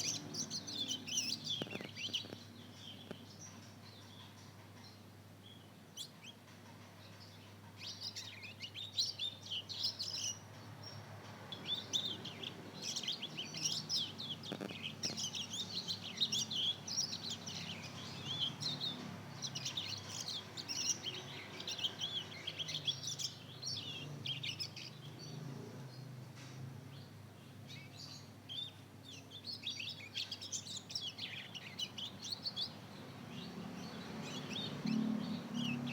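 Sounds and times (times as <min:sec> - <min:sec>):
young canary twittering: 0:00.0 - 0:04.4, 0:07.4 - 0:25.4, 0:27.6 - 0:35.9.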